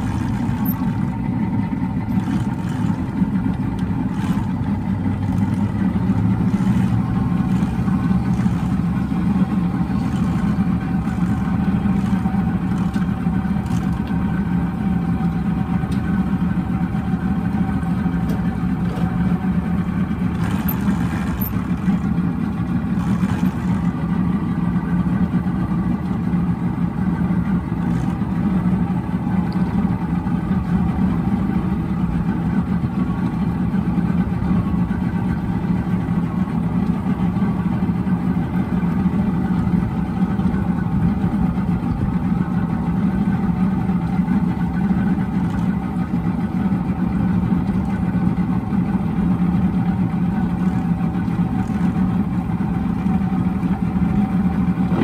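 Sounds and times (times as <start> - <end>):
outboard engine droning: 0.0 - 55.0.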